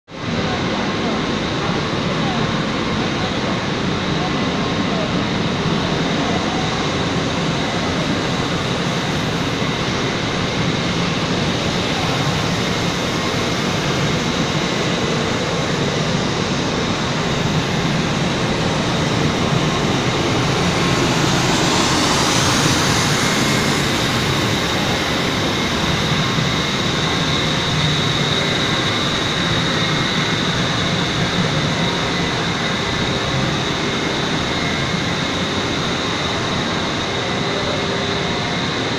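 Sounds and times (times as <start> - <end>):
high machine whine: 0.2 - 38.9
machinery hum and hiss: 0.2 - 38.9.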